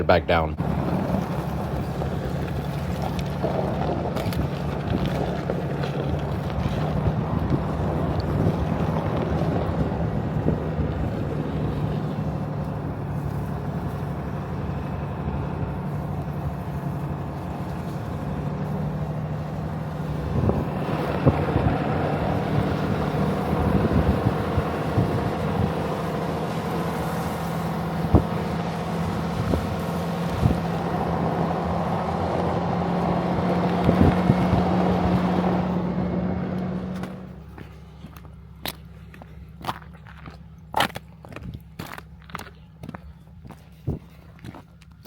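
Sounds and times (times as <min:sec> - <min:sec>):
rough road noise: 0:00.0 - 0:45.0
truck engine running: 0:00.0 - 0:45.0.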